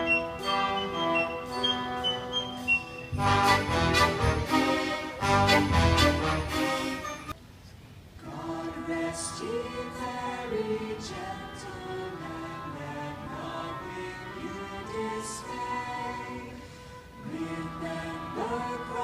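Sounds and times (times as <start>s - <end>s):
choir singing with accompaniment: 0.0s - 7.4s, 8.2s - 19.0s.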